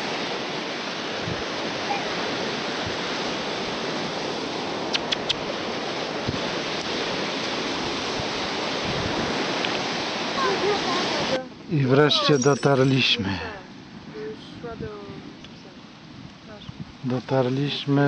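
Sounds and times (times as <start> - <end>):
sea surf breaking on beach: 0.0 - 18.0.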